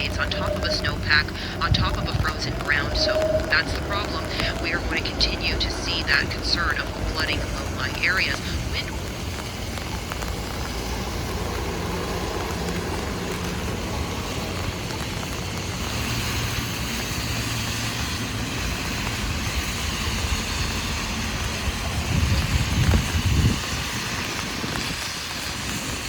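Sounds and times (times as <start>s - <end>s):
cars passing on wet road: 0.0s - 26.0s
heavy rain on umbrella: 0.0s - 26.0s.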